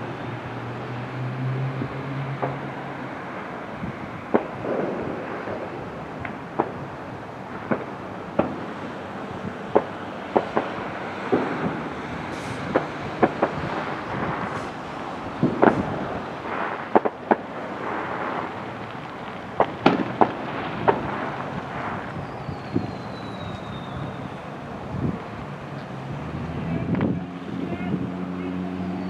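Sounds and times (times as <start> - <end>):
distant firecrackers popping: 2.3 - 27.5.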